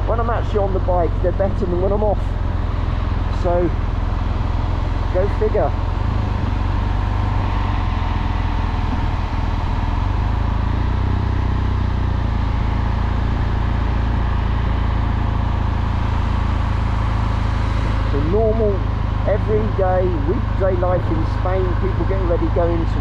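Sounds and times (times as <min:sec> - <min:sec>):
motorcycle engine humming: 0:00.0 - 0:23.0.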